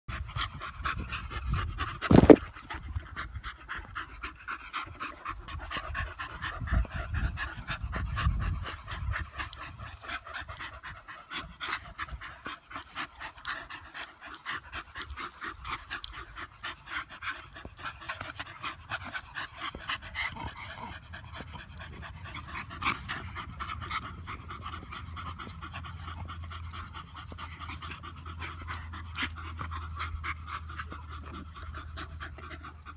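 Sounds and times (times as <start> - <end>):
dogs panting: 0.1 - 32.9.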